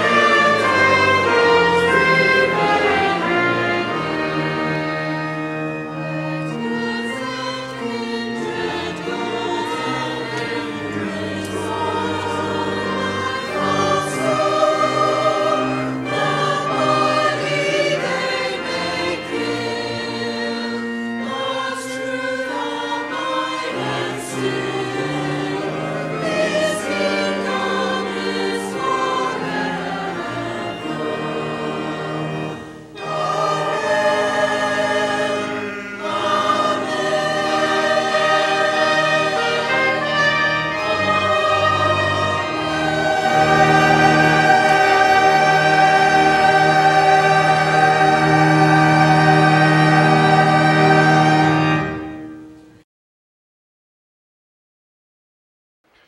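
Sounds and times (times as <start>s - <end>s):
church choir singing: 0.0s - 52.8s.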